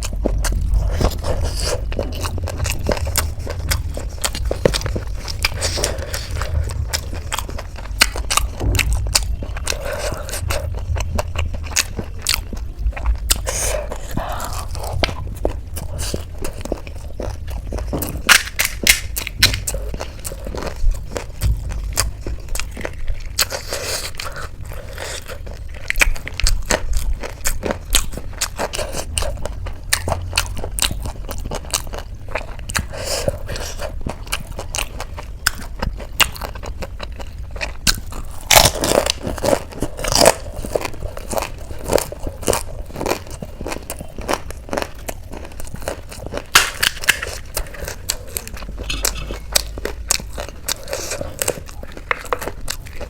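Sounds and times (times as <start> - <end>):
crunching and chewing crisp snacks: 0.0 - 53.0.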